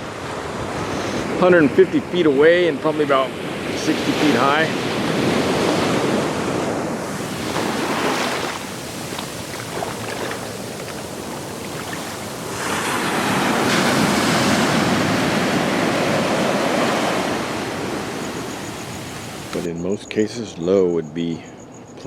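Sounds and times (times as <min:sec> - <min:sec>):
rushing surf: 0:00.0 - 0:19.7.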